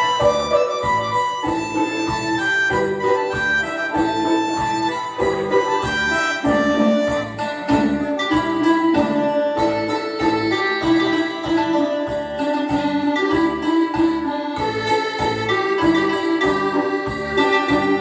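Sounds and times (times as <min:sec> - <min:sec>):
dance music with quick beat: 0:00.0 - 0:18.0.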